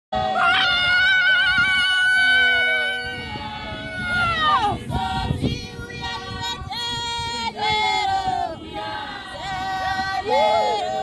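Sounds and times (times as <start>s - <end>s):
women singing together: 0.2s - 11.0s.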